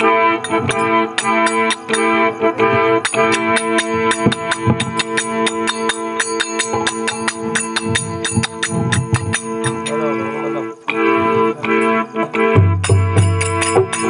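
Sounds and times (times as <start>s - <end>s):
fast hand percussion beat: 0.0s - 10.2s, 12.4s - 14.0s
held drone notes: 0.0s - 14.0s.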